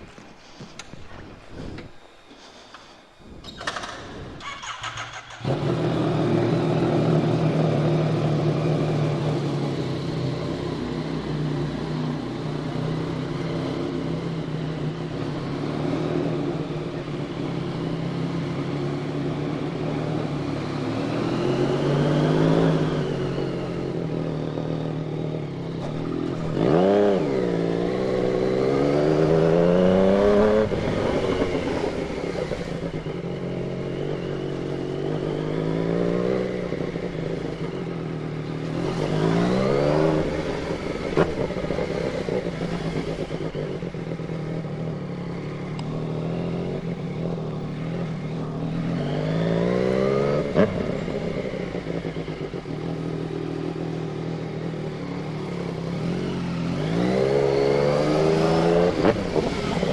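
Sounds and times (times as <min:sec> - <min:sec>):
motorcycle engine starting and idling: 0:00.1 - 0:59.9.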